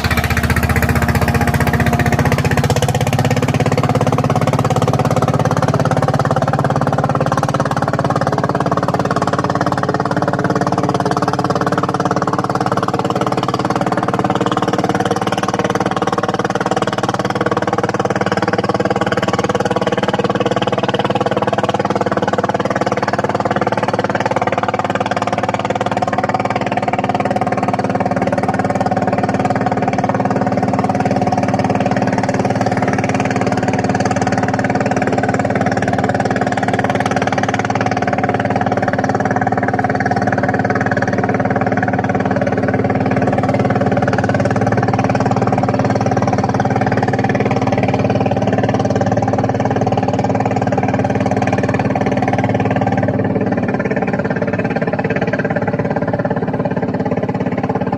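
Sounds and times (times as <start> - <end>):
diesel boat engine running: 0.0 - 57.9.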